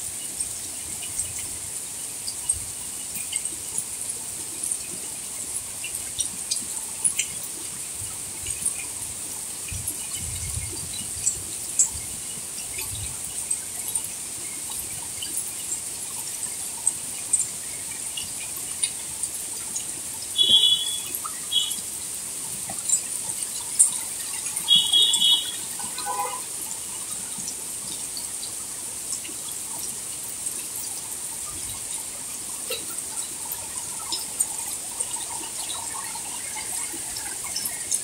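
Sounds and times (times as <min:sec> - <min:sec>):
drips and splashes: 0:00.0 - 0:38.0
rain falling on leaves: 0:00.0 - 0:38.0.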